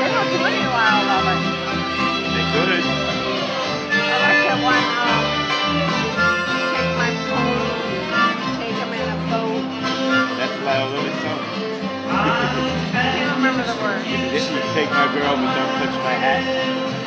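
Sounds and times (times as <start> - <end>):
bowed fiddle: 0.0 - 17.0
harmonica: 0.0 - 17.0
pulsing bass notes: 0.0 - 17.0
strummed acoustic guitars: 0.0 - 17.0.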